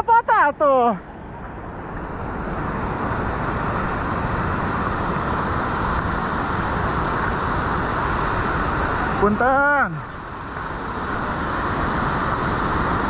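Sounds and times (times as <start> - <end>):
waterfall and rushing river: 0.0 - 13.0.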